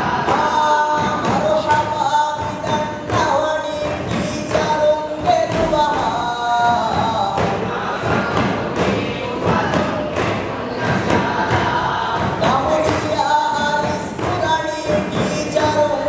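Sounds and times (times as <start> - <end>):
group of young men chanting: 0.0 - 16.0
hand-struck frame drums: 0.0 - 16.0.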